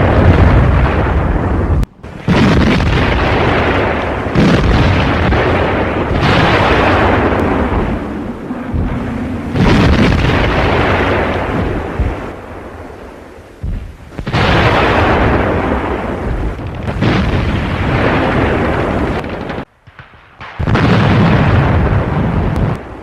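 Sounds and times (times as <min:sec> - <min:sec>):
tank gun firing: 0:02.0 - 0:13.0, 0:13.6 - 0:22.8.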